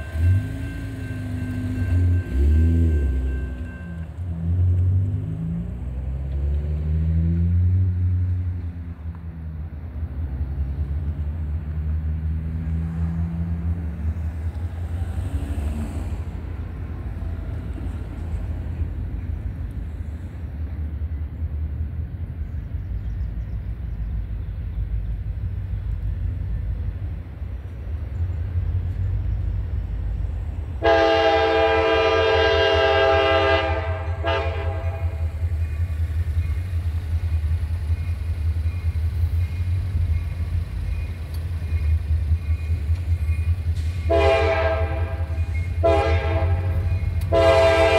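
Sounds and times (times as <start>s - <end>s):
diesel locomotive rumbling: 0.0s - 47.9s.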